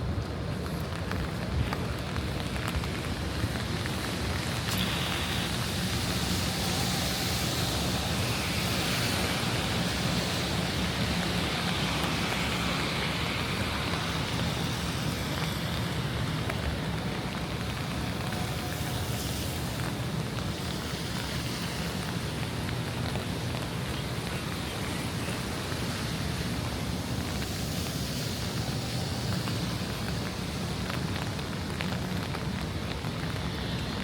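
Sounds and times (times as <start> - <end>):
low traffic rumble: 0.0 - 34.0
rain hissing on street: 0.0 - 34.0.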